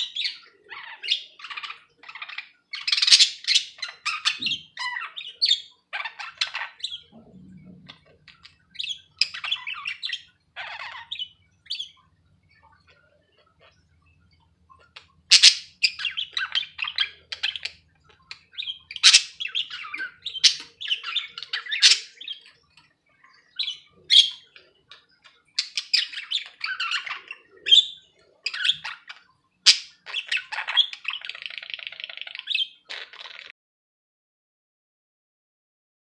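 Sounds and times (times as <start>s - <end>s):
budgerigars chirping and squawking: 0.0s - 33.5s.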